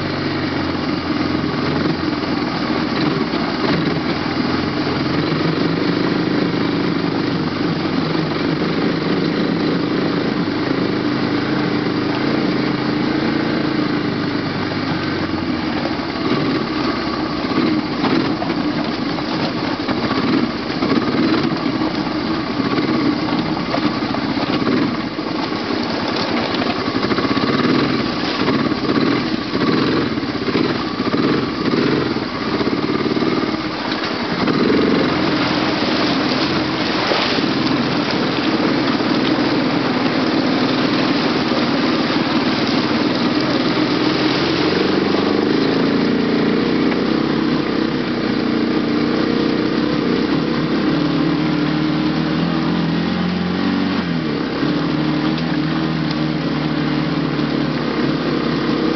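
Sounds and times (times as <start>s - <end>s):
quad engine running under load: 0.0s - 58.9s.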